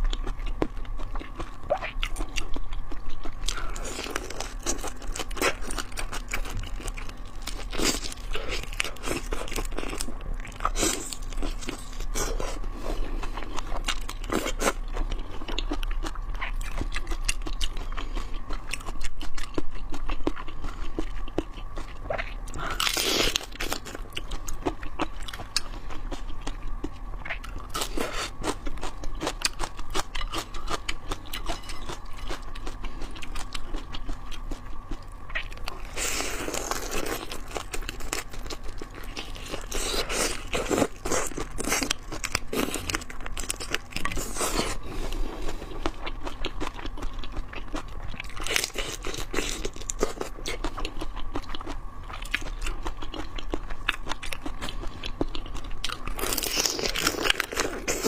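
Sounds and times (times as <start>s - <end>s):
crunching and chewing shrimp: 0.0s - 58.0s.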